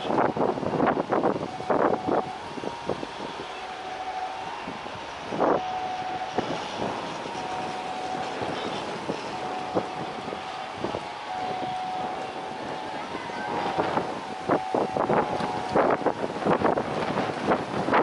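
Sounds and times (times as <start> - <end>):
steady background drone: 0.0 - 18.0
wind buffeting microphone: 0.0 - 18.0.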